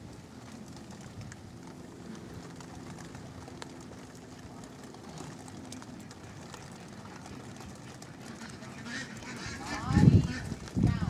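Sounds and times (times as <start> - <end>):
rain dripping on a roof: 0.0 - 11.0
steady low hum: 0.0 - 11.0.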